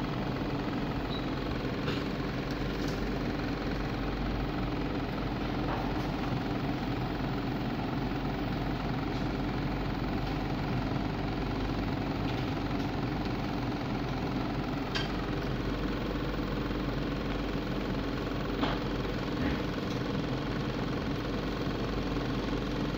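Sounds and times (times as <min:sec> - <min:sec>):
electrical hum with fan whir: 0:00.0 - 0:22.9.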